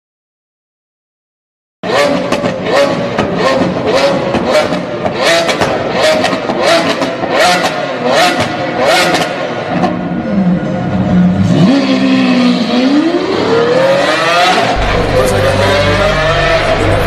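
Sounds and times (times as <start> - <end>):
car accelerating: 1.8 - 17.0
car engine revving with cracks: 1.8 - 17.0.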